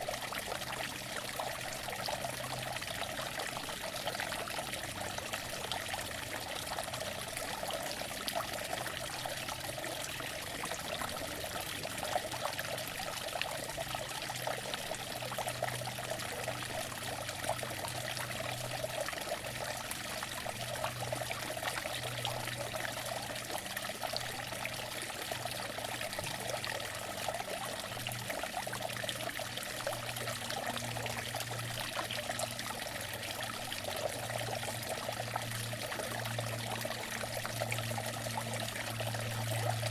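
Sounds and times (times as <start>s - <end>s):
faint low hum: 0.0s - 39.9s
fountain water splashing: 0.0s - 39.9s.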